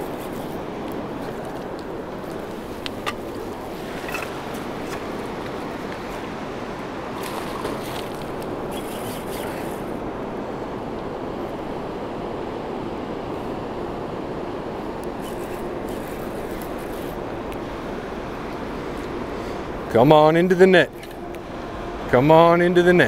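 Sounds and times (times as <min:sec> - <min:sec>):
river rushing: 0:00.0 - 0:23.0.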